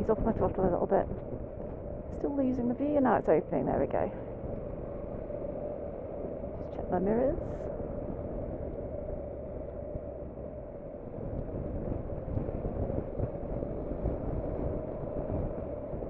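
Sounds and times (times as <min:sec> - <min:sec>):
motorcycle road rumble: 0:00.0 - 0:16.0
wind noise on microphone: 0:00.0 - 0:16.0.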